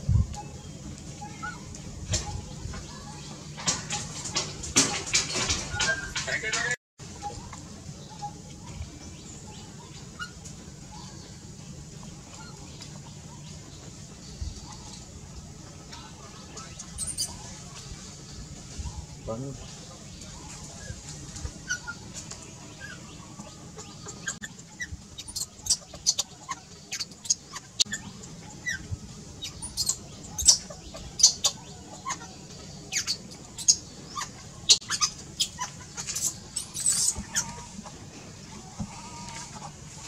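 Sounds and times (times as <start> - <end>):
small animals chirping and squeaking: 0.1 - 40.0.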